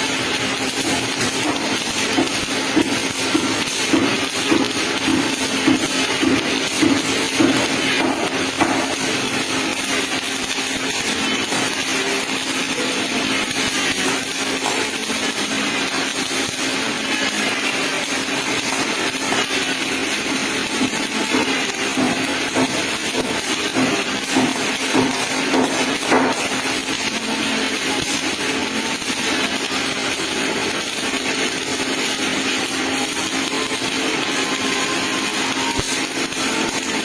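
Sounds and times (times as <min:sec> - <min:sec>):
welding arc crackling: 0:00.0 - 0:37.0.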